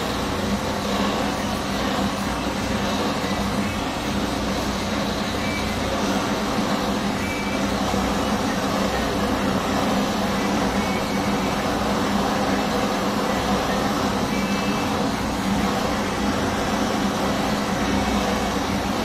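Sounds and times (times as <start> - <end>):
gas torch flame rushing: 0.0 - 19.0.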